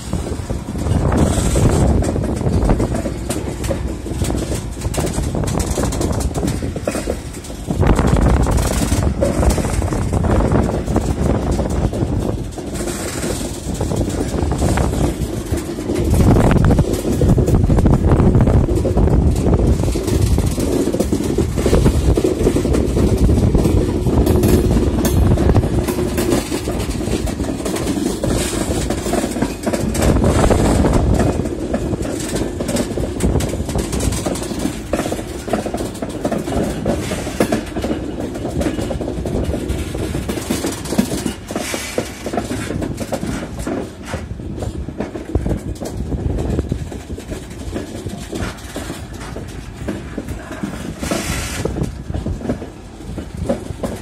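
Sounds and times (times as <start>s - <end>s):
freight train rumble: 0.0s - 54.0s
train wheels clanking over rail joints: 0.0s - 54.0s.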